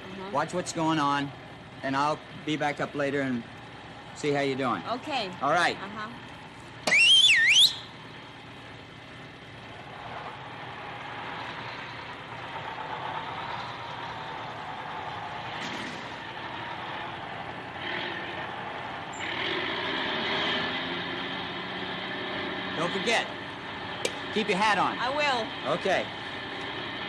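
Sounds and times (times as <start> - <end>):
city traffic: 0.0 - 27.0
construction machinery: 0.0 - 27.0.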